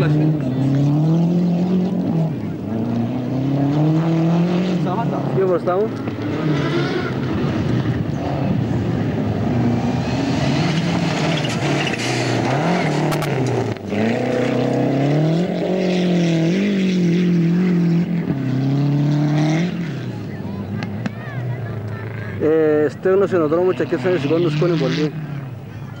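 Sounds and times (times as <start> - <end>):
gravel and tyre noise: 0.0 - 26.0
rally car engine revving: 0.0 - 26.0.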